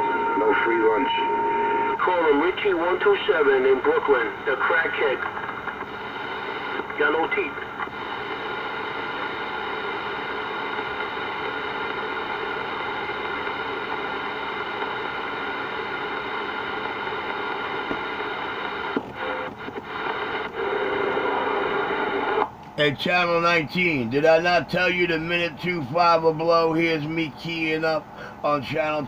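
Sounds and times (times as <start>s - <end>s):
multi-tone whine: 0.0s - 29.0s
radio static: 0.0s - 29.0s.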